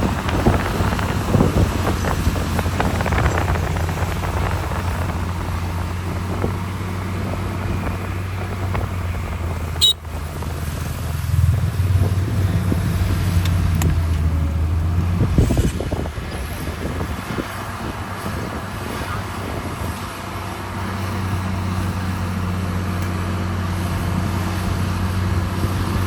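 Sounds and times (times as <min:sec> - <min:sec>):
diesel earthmoving machinery drone: 0:00.0 - 0:26.0.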